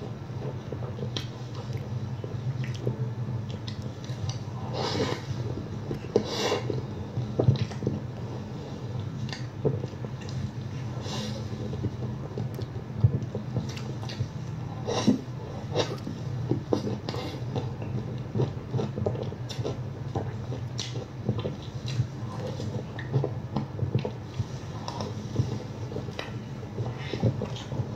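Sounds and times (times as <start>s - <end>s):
steady low hum: 0.0s - 27.9s
person chewing food: 0.4s - 27.9s.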